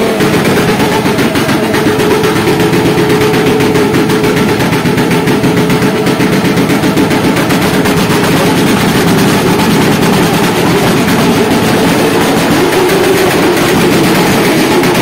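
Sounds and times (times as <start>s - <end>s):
loud motorcycle engine running: 0.0s - 15.0s.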